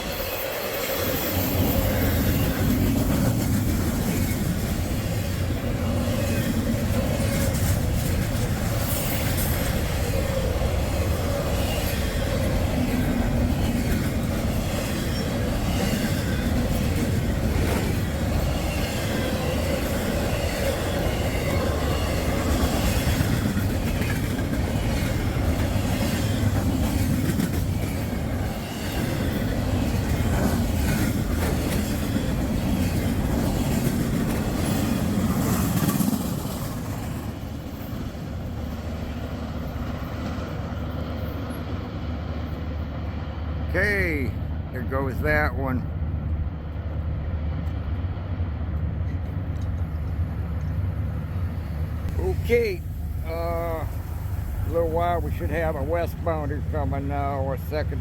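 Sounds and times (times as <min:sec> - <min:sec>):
steel wheels clicking on rails: 0:00.0 - 0:42.8, 0:48.7 - 0:58.0
train cars rumbling by: 0:00.0 - 0:58.0.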